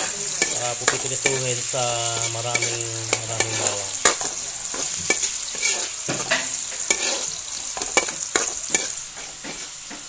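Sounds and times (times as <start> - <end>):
metal spatula scraping a pan: 0.0 - 9.8
garlic and onion sizzling in oil: 0.0 - 10.0.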